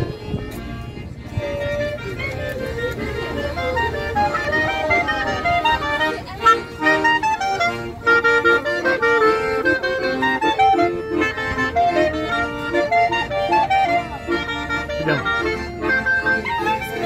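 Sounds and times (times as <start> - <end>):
accordions playing: 0.0 - 17.0
clarinet playing: 0.0 - 17.0.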